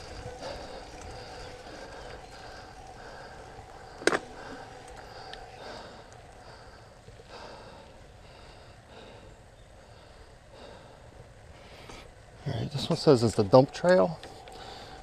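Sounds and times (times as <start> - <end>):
faint heavy breathing: 0.0 - 12.2, 14.3 - 15.0.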